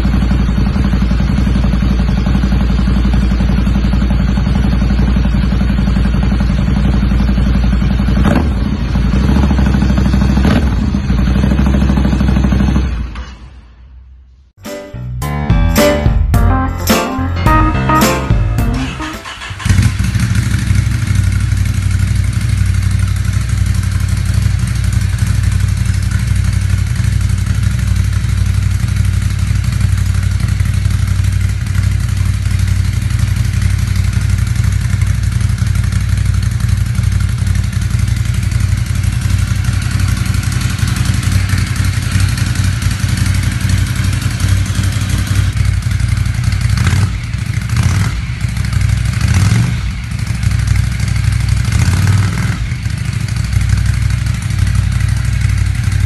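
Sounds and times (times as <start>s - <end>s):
motorcycle engine idling: 0.0s - 12.8s, 19.2s - 49.2s, 49.9s - 52.0s, 52.6s - 56.0s.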